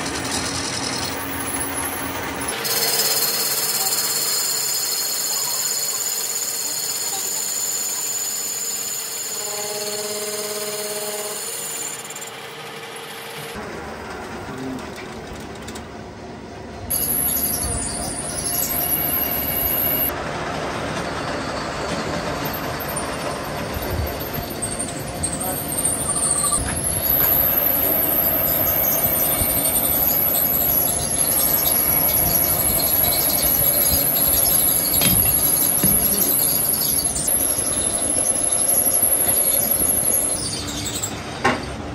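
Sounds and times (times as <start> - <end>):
metal lathe whining: 0.0 - 15.9, 16.9 - 20.3, 21.0 - 41.9
lathe rough running noise: 0.0 - 41.9.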